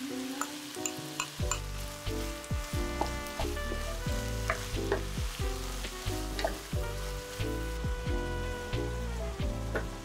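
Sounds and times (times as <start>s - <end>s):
background music low notes: 0.0s - 10.0s
meat sizzling in a pan: 0.0s - 10.0s.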